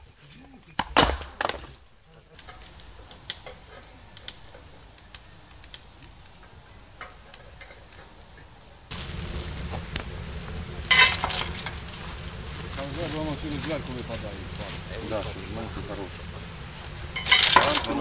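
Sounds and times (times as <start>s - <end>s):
wood fire in metal stove: 0.0s - 18.0s.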